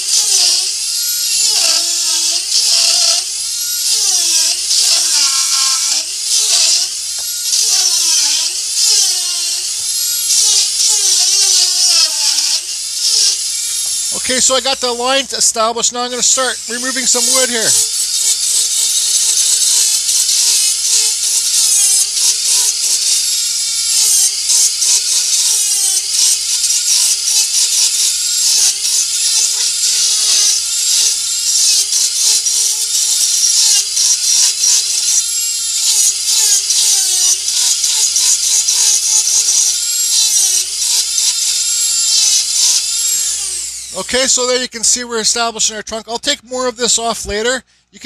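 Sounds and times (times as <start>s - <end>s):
rotary tool grinding wood: 0.0s - 48.0s.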